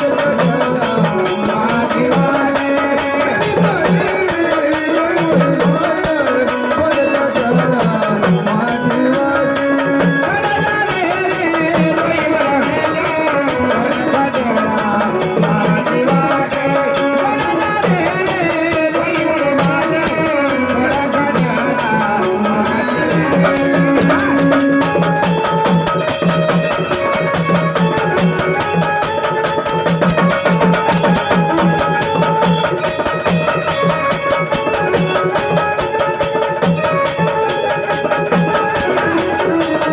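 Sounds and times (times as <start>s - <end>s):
hand drum beats: 0.0s - 39.9s.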